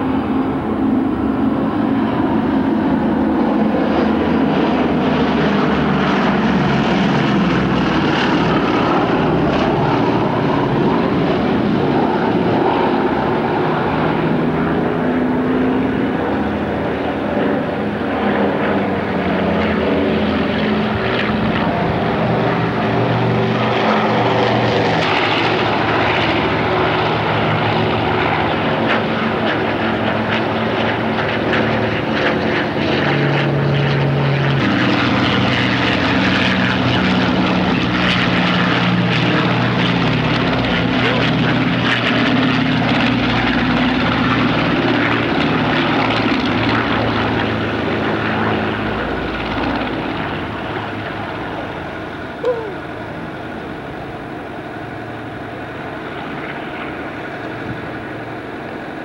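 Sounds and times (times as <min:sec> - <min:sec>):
propeller plane engines droning: 0:00.0 - 0:59.0.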